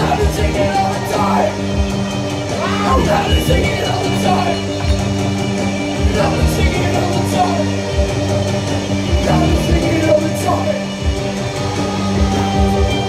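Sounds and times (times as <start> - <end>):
person singing: 0.0 - 1.9, 2.5 - 5.2, 6.0 - 8.1, 9.1 - 13.0
band playing live: 0.0 - 13.0.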